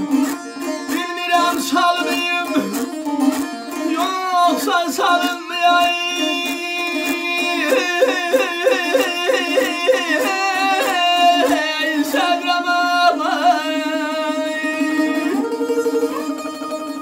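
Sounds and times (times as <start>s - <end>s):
plucked lute melody over drone: 0.0s - 17.0s.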